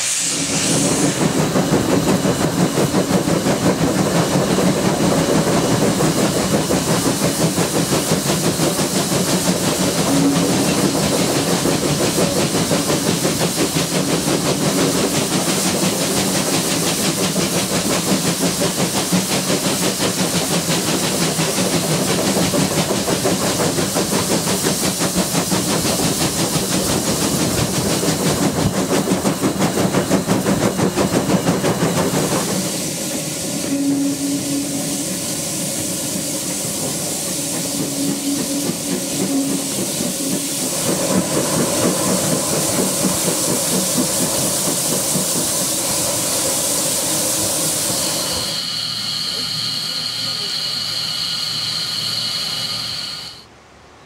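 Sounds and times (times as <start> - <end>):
steam locomotive exhaust beat: 0.0 - 53.5
rail noise: 0.0 - 54.0.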